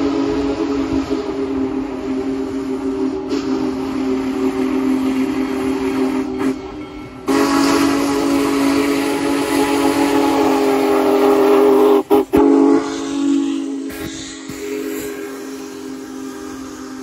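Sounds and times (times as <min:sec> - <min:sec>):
steam locomotive whistle: 0:00.0 - 0:17.0.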